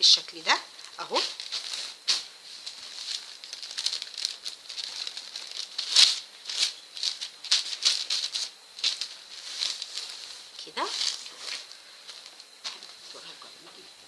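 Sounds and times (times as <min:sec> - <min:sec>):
paper rustling and crinkling: 0:00.8 - 0:13.8.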